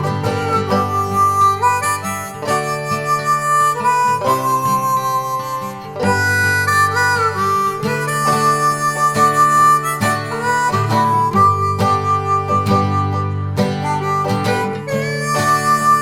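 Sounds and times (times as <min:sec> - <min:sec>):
guitar accompaniment: 0:00.0 - 0:16.0
harmonica bending notes: 0:00.0 - 0:16.0.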